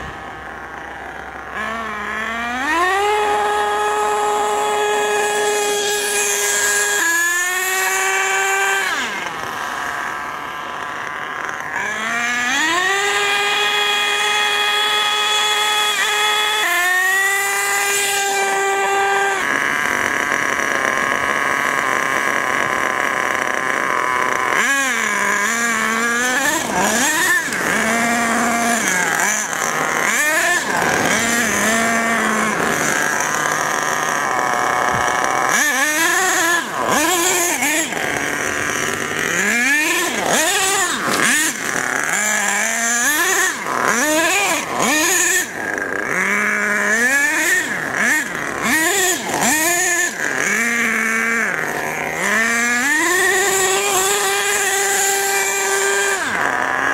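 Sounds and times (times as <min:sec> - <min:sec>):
nitro engine revving: 0:00.0 - 0:56.9.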